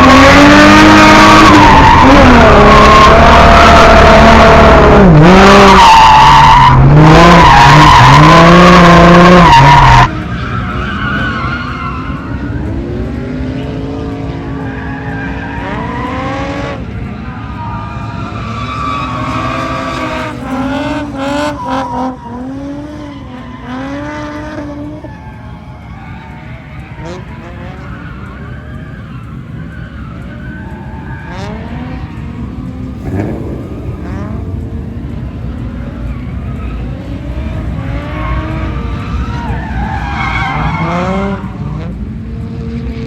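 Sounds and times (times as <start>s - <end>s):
car engine revving: 0.0s - 25.4s, 26.2s - 43.0s
tyres skidding: 0.0s - 43.0s.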